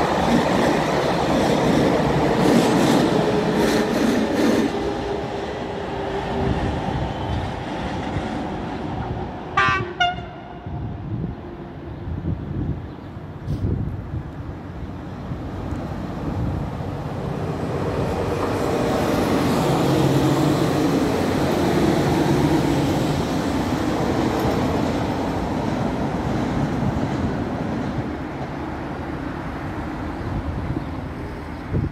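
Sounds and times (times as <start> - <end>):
passenger train passing: 0.0 - 31.9.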